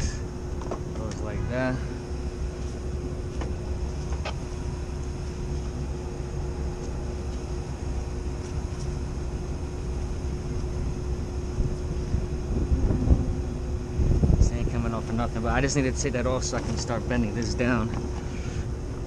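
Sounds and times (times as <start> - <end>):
rooftop machinery rumble and hum: 0.0 - 19.0.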